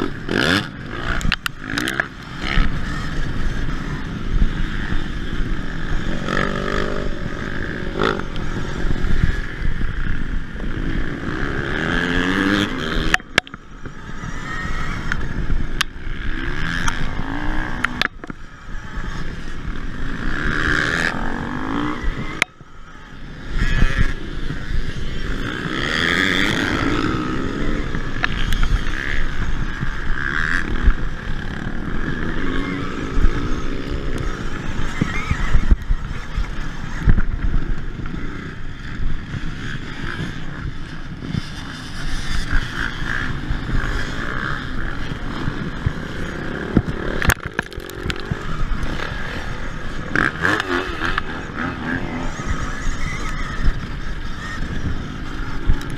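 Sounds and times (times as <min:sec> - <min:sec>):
bike rattling over rutted dirt: 0:00.0 - 0:55.9
off-road motorcycle engines: 0:00.0 - 0:55.9.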